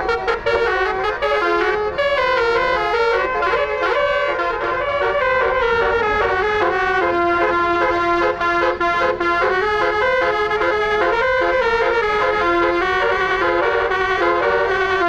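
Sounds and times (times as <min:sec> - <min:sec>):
multi-tone bus horn melody: 0:00.0 - 0:15.0.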